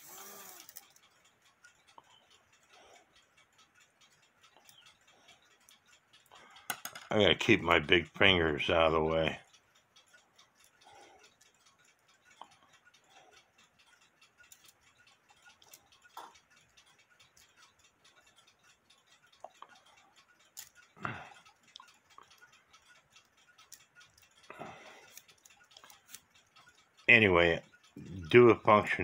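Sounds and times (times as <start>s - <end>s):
clock movement clicking: 0.0s - 29.0s.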